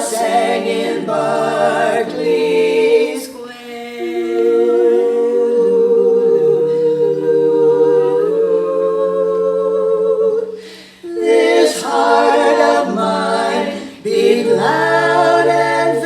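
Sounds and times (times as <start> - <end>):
quartet singing in close harmony: 0.0 - 16.0.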